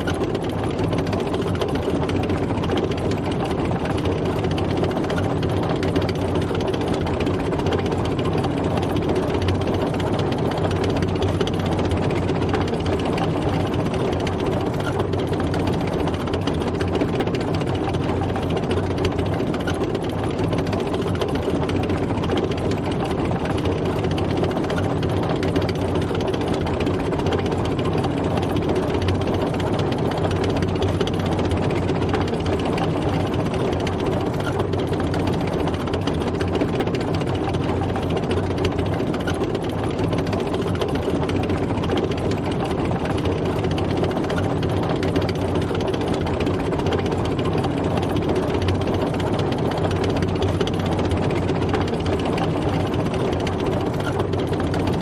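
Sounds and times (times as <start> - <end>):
tank engine with mechanical clatter: 0.0 - 55.0.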